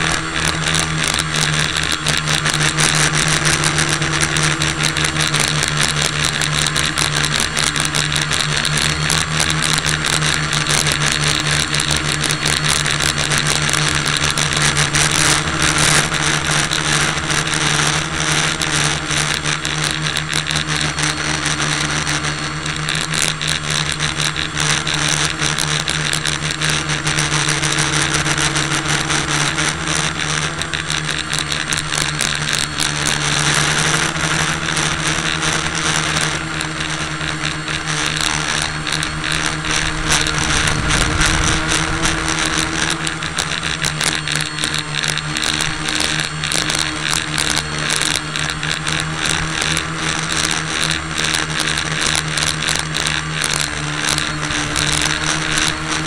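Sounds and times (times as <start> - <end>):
small motor humming and buzzing: 0.0 - 56.0.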